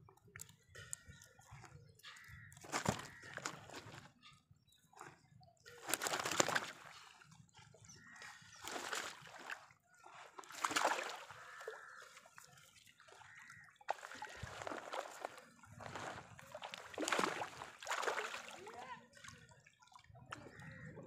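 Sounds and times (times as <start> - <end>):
water splashing and dripping: 0.0 - 4.3, 5.0 - 21.0.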